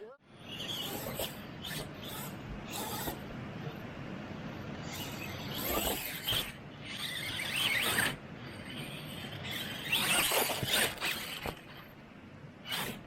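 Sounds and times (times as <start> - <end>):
electric motor whining: 0.4 - 3.9, 4.5 - 11.9, 12.6 - 13.0.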